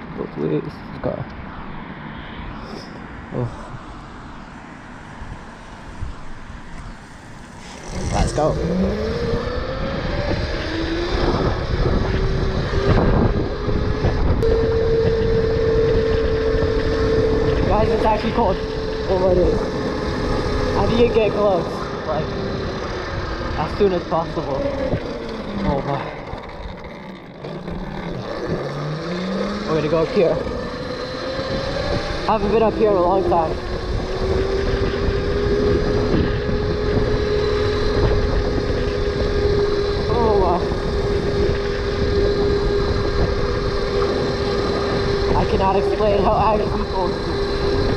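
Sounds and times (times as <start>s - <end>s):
wind rumble on microphone: 0.0s - 47.9s
electric motorbike motor whining: 3.9s - 47.9s.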